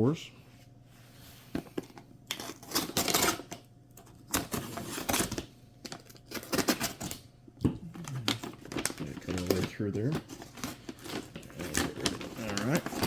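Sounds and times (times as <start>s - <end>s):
packaging rustling and tearing: 2.3s - 13.0s.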